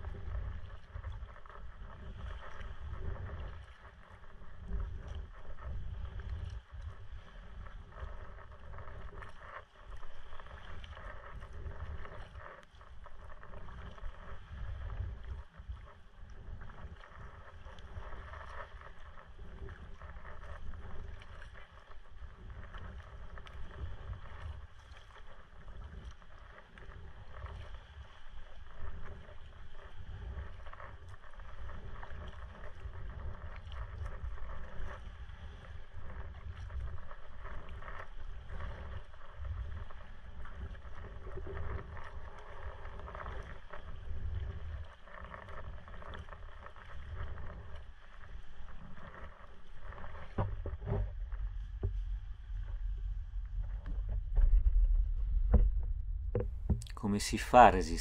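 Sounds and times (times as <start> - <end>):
low wind rumble on microphone: 0.0 - 58.0.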